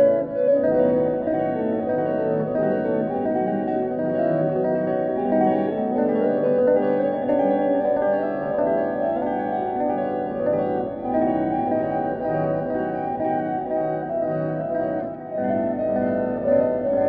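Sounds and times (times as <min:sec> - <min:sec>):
keyboard music sustained notes: 0:00.0 - 0:17.0.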